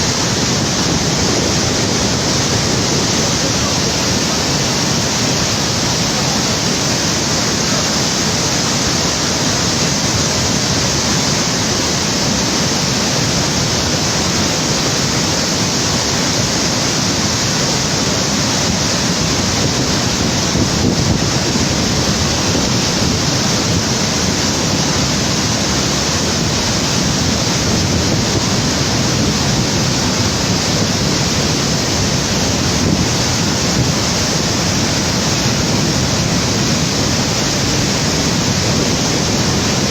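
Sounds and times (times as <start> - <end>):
floodwater river rushing: 0.0 - 39.9.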